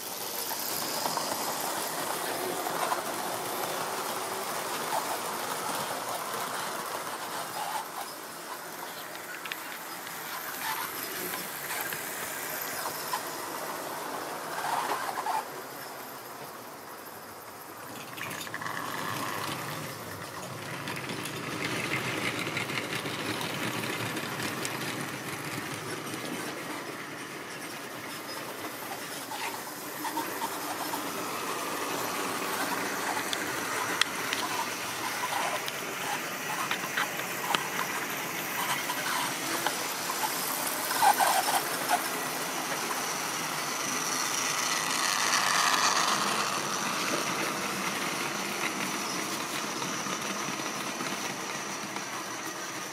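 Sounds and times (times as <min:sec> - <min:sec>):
electric model train motors whirring: 0:00.0 - 0:52.9
wheels clicking over rail joints: 0:00.0 - 0:52.9.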